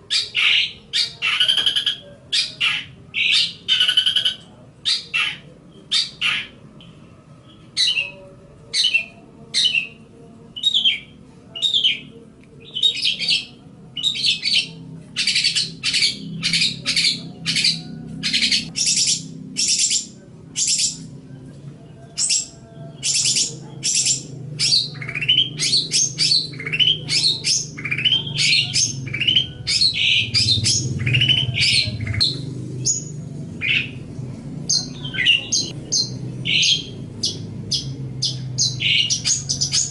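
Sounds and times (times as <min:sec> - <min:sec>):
shrike singing: 0:00.0 - 0:39.9.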